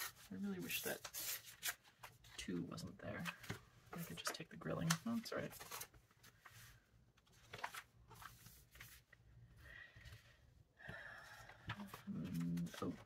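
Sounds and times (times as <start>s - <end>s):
magazine pages turning: 0.0s - 9.2s, 11.4s - 13.0s.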